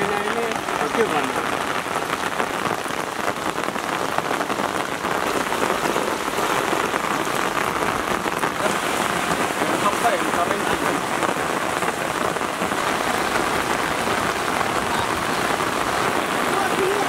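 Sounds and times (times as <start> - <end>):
rain falling on floodwater: 0.0 - 17.0.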